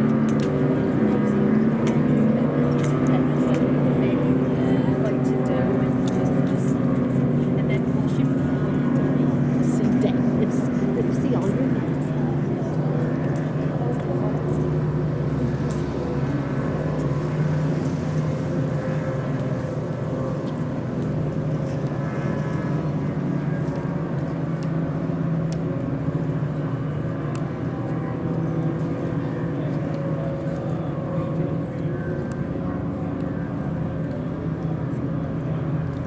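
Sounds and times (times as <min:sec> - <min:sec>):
powerboat engines droning: 0:00.0 - 0:36.0.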